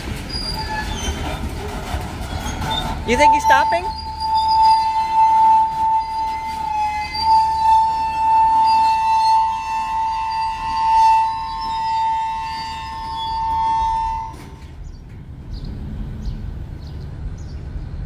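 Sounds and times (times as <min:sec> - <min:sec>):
freight cars rumbling on rails: 0:00.0 - 0:18.0
train wheels squealing: 0:00.2 - 0:15.0.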